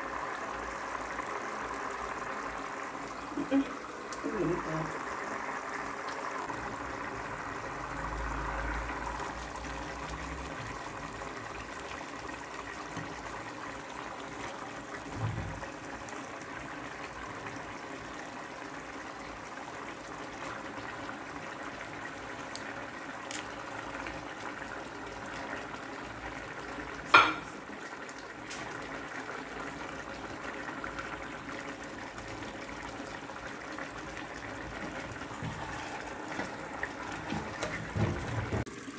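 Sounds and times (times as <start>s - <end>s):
broth boiling and bubbling: 0.0s - 38.9s.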